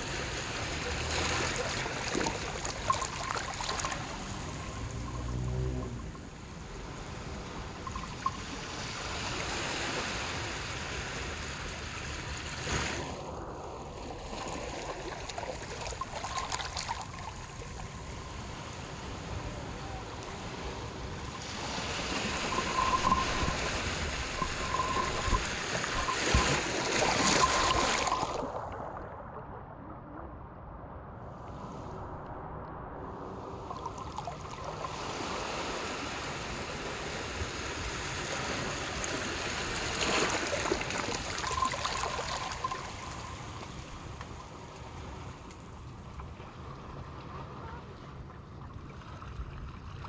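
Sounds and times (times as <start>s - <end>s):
water waves splashing: 0.0s - 29.8s, 31.4s - 50.0s.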